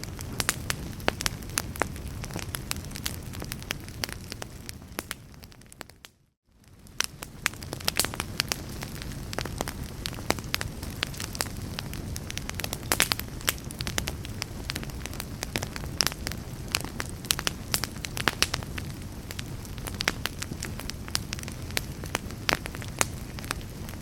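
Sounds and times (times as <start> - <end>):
log fire crackling and popping: 0.0 - 24.0.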